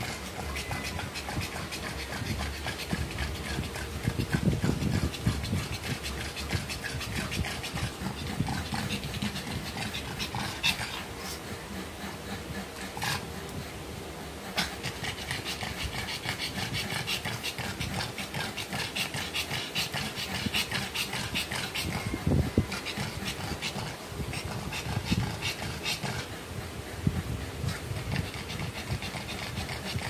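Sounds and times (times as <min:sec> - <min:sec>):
dog panting fast: 0:00.0 - 0:30.0.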